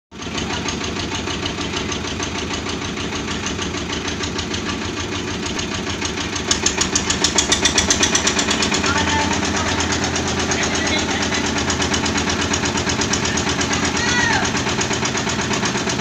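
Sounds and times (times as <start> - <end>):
drilling rig engine running: 0.1 - 16.0
rhythmic knocking: 0.4 - 16.0.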